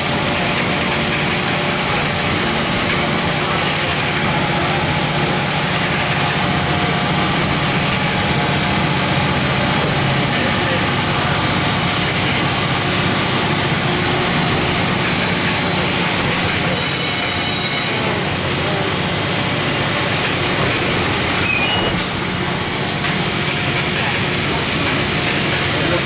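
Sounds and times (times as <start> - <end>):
steam engines running: 0.0 - 26.0.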